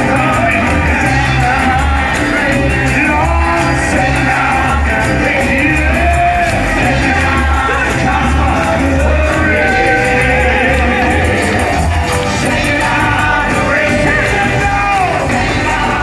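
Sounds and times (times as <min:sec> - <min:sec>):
band with prominent bass: 0:00.0 - 0:16.0
choir and congregation singing: 0:00.0 - 0:16.0
congregation shouts: 0:00.0 - 0:16.0.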